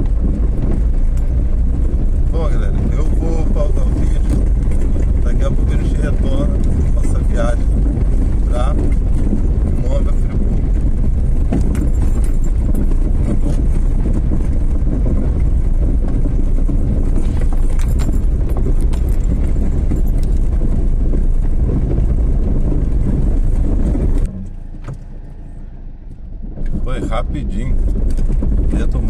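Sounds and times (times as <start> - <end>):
knocks and rattles: 0.0 - 25.2, 26.4 - 29.0
vehicle engine and road rumble: 0.0 - 29.0.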